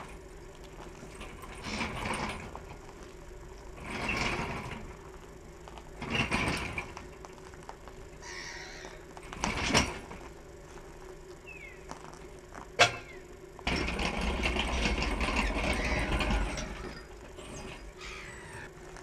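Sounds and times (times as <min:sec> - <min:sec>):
metal creaking and scraping: 0:00.0 - 0:11.0, 0:11.8 - 0:19.0
wheels rolling on concrete: 0:00.0 - 0:19.0.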